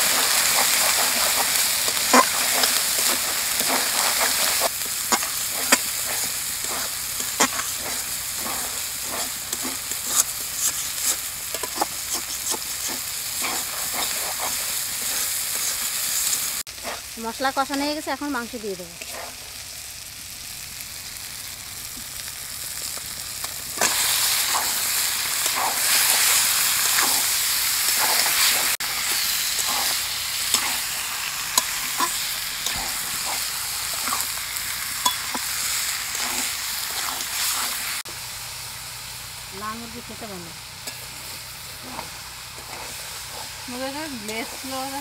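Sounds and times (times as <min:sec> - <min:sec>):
metal utensil scraping a wok: 0:00.0 - 0:17.2, 0:23.8 - 0:38.0, 0:40.0 - 0:45.0
chicken sizzling in hot oil: 0:00.0 - 0:45.0.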